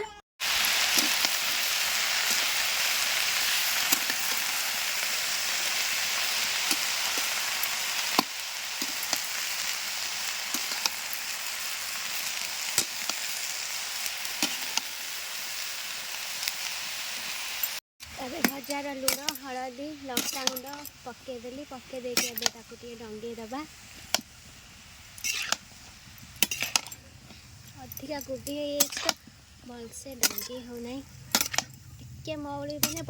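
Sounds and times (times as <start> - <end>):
cabbage sizzling in oil: 0.4 - 33.0.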